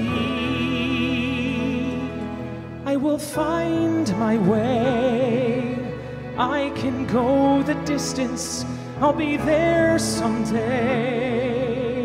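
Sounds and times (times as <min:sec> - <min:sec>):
man singing with vibrato: 0:00.0 - 0:12.0
orchestral accompaniment: 0:00.0 - 0:12.0.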